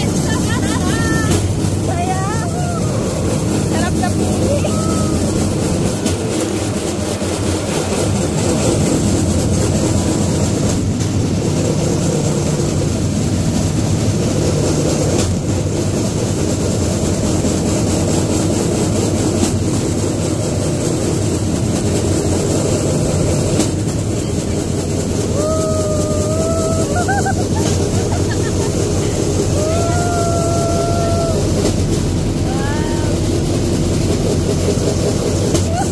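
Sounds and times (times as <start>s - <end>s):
steel wheels rumbling on track: 0.0s - 35.9s.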